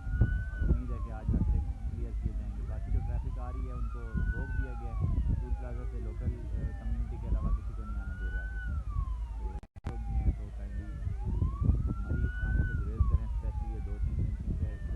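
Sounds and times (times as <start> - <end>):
emergency vehicle siren wailing: 0.0 - 14.9
low rumble: 0.0 - 14.9.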